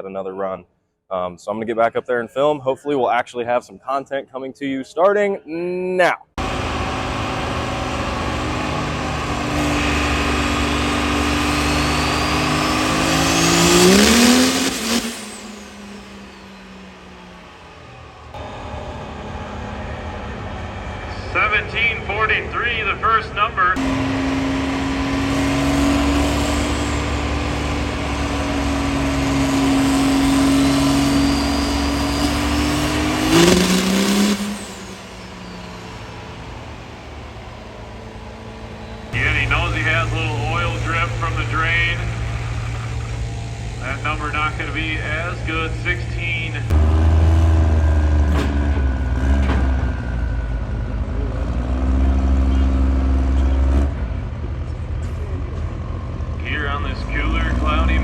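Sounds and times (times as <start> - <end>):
diesel engine running flat out: 6.4 - 58.0.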